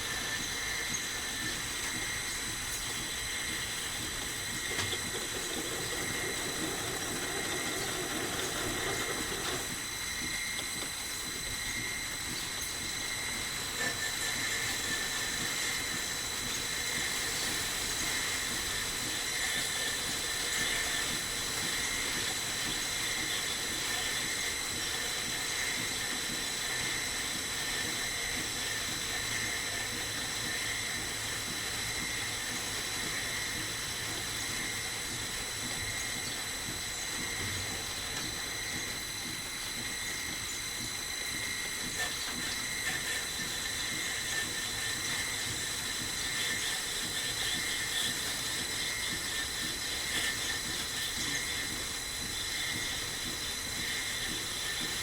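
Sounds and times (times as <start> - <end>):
metal lathe whining: 0.0 - 55.0.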